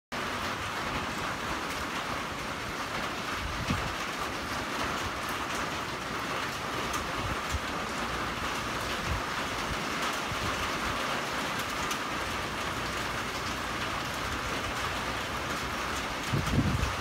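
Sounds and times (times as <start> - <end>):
rain on a roof and paving: 0.1 - 17.0.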